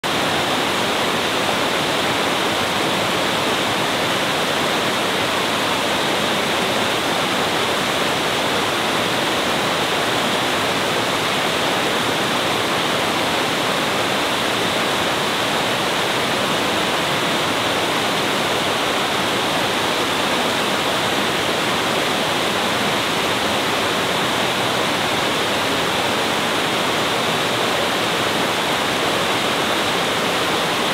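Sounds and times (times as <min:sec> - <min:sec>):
water rushing over rocks: 0:00.0 - 0:30.9.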